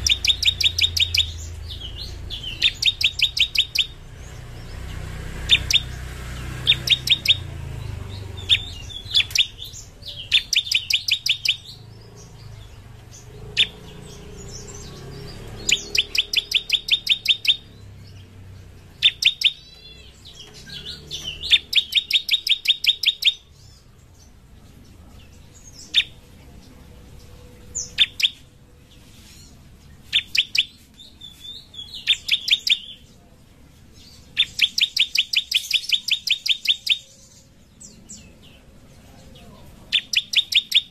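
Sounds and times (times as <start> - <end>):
bird singing sharp high notes: 0.0 - 18.2, 18.9 - 23.9, 27.6 - 33.1, 34.0 - 38.3, 39.9 - 40.9.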